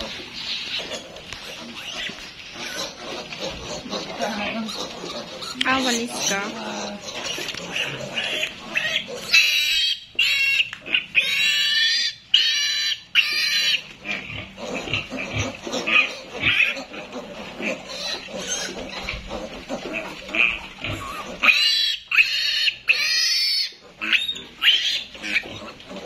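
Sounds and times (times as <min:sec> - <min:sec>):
piglet squealing: 0:00.0 - 0:26.0.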